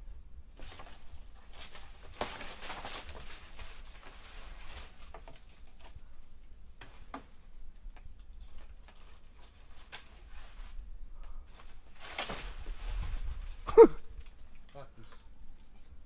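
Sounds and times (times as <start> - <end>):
leaves rustling and branches cracking: 0.5 - 16.0.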